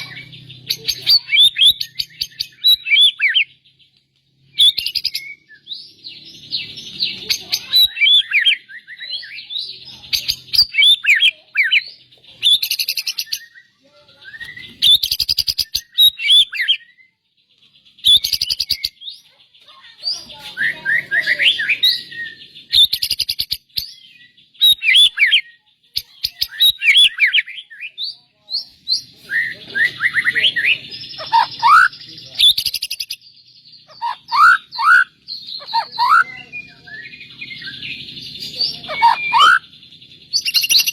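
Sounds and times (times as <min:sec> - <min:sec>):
bird singing whistled phrases: 0:00.0 - 0:03.5, 0:04.6 - 0:06.0, 0:06.6 - 0:17.2, 0:18.0 - 0:19.2, 0:20.0 - 0:33.2, 0:33.8 - 0:40.9.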